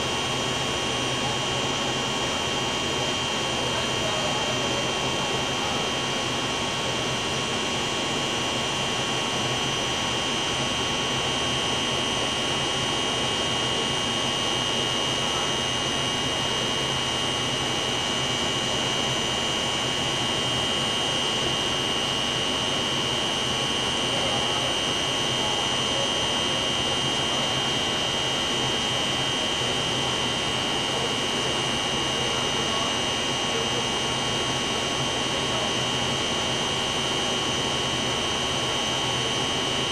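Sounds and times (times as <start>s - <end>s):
high machine whine: 0.0s - 39.9s.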